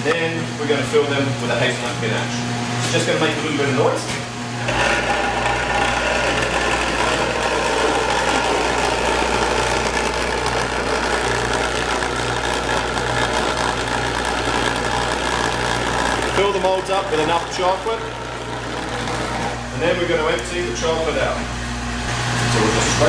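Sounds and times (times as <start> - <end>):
machine low mechanical hum: 0.0 - 23.0.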